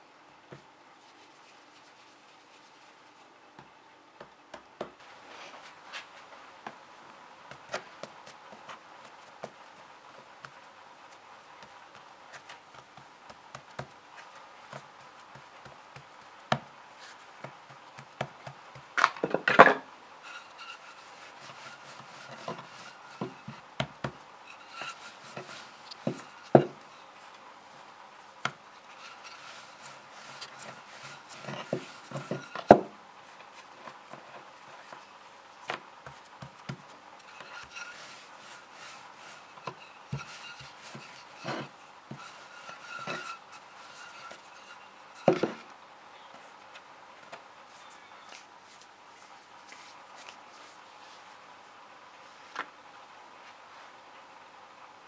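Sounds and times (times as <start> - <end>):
hands rubbing dough: 0.5 - 19.0, 20.2 - 45.7, 46.4 - 51.4.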